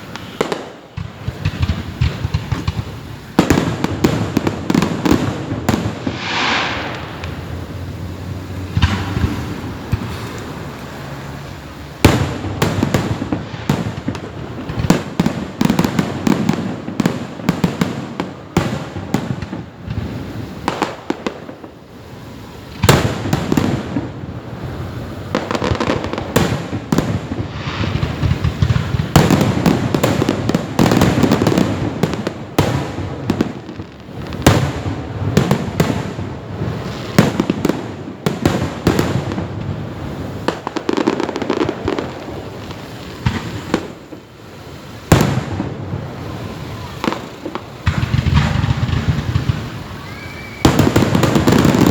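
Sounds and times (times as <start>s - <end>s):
fireworks bangs and crackle: 0.0s - 51.9s.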